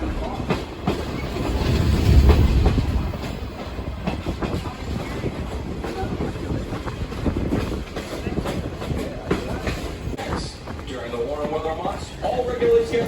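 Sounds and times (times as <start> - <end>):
train car rumbling: 0.0 - 13.0
wheels clacking over rail joints: 0.0 - 13.0.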